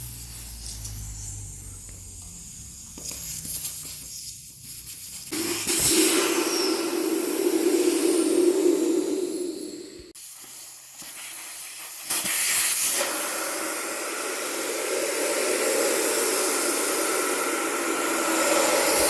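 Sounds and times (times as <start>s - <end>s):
air hissing from tyre valve: 0.0s - 19.0s.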